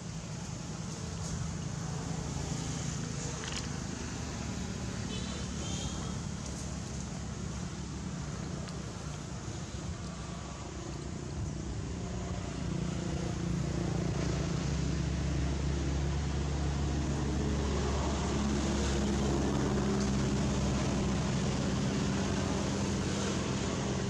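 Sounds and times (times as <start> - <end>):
engine running drone: 0.0 - 24.0.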